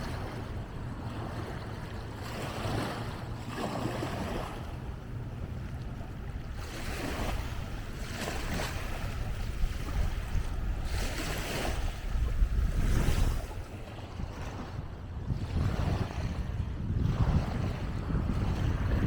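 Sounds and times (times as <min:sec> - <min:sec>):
waves washing on shore: 0:00.0 - 0:19.0
wind rumbling on microphone: 0:00.0 - 0:19.0.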